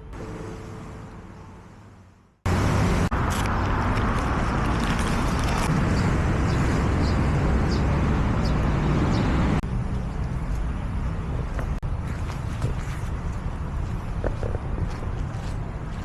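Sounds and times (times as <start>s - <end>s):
road traffic rumbling: 0.0s - 16.0s.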